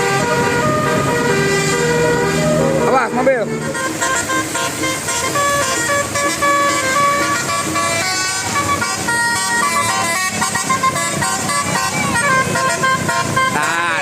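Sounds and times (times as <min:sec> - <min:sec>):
musical air horn playing tune: 0:00.0 - 0:14.0.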